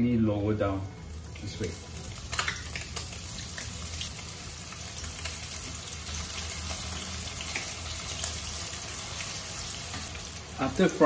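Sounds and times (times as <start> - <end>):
fish frying in hot oil: 0.6 - 11.0
faint oil crackles: 0.7 - 11.0.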